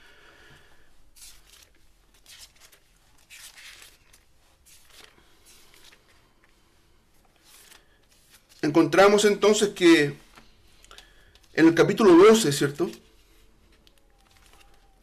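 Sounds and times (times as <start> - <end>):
pages being turned: 1.1 - 6.6, 7.2 - 15.0.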